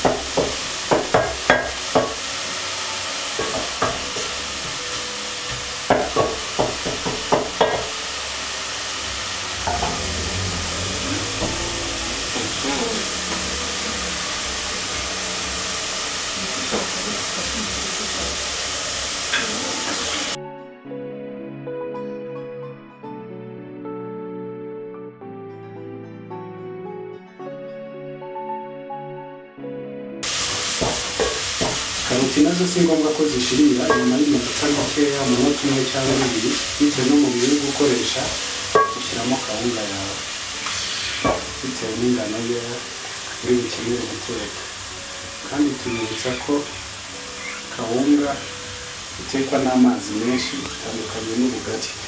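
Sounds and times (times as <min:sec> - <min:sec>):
gas burner hissing: 0:00.0 - 0:20.4, 0:30.2 - 0:52.0
vegetables sizzling in oil: 0:00.0 - 0:20.4, 0:30.2 - 0:52.0.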